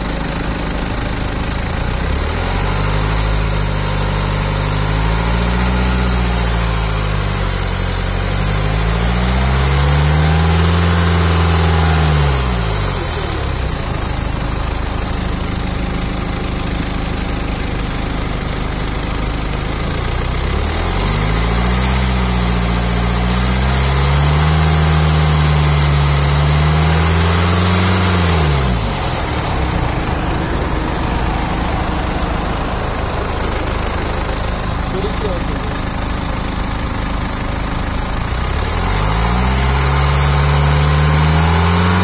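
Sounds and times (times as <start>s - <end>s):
diesel car engine idling and revving: 0.0s - 42.0s.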